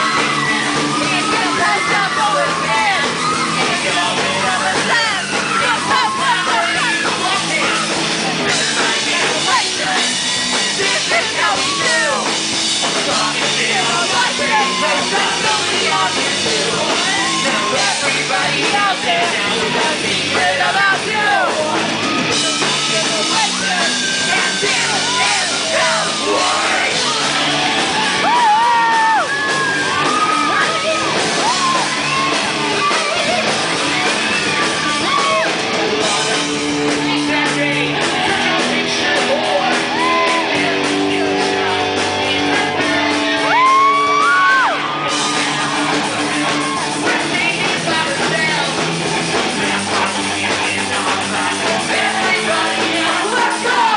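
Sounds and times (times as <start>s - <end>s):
live rock band playing: 0.0s - 53.9s
singer yelling and singing: 0.0s - 53.9s.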